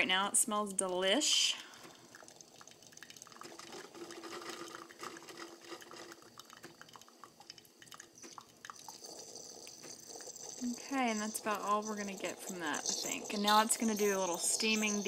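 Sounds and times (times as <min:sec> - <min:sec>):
faint steady hum: 0:00.0 - 0:15.0
coffee dripping and trickling: 0:01.0 - 0:15.0.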